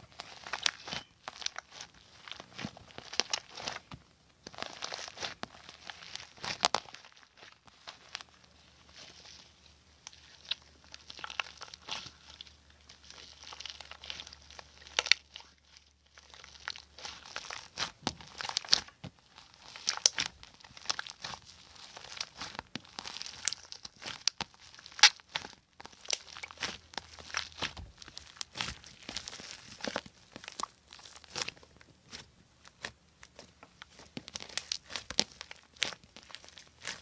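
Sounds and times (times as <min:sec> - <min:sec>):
slime squelching and crackling: 0:00.0 - 0:37.0.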